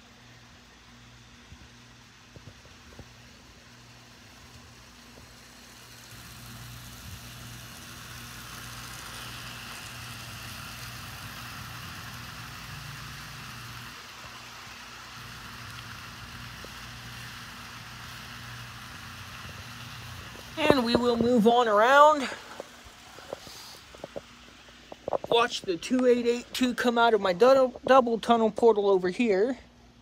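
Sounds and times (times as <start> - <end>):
model train running on track: 0.0 - 24.3.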